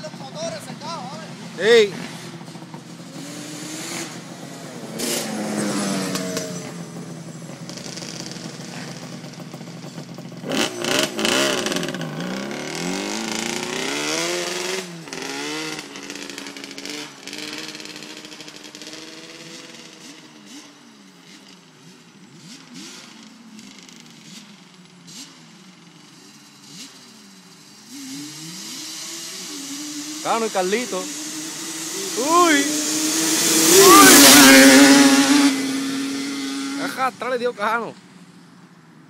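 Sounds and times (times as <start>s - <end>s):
atv engines revving: 0.0s - 38.4s.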